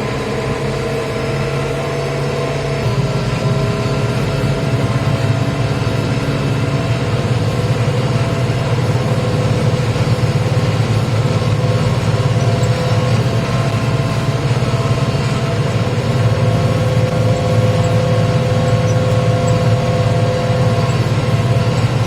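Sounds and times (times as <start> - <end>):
diesel tractor engine under load: 0.0 - 22.0
high whine: 0.0 - 22.0.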